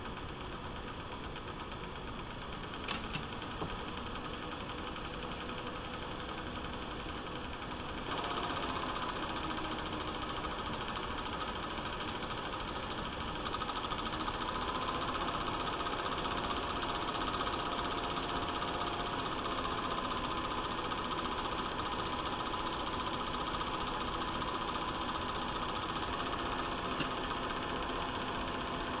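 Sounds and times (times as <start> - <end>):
film transport chatter: 0.1 - 29.0
projector motor whirr: 0.4 - 29.0.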